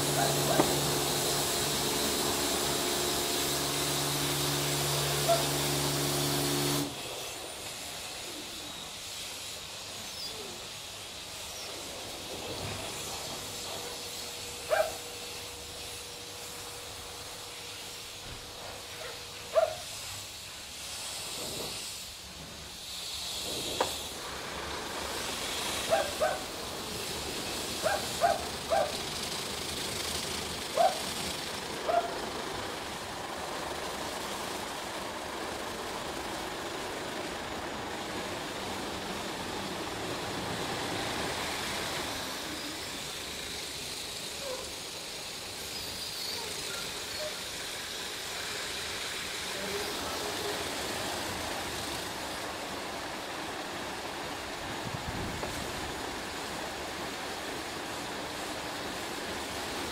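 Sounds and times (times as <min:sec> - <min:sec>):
water spraying: 0:00.0 - 0:59.9.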